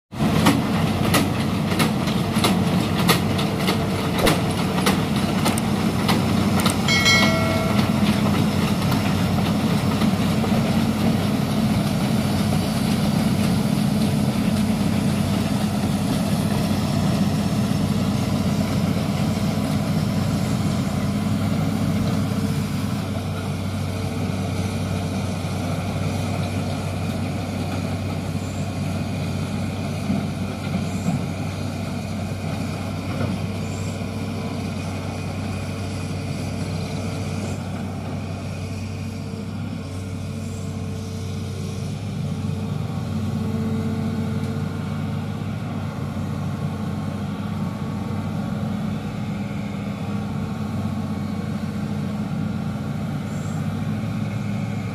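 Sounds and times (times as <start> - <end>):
excavator diesel engine running: 0.2 - 54.9.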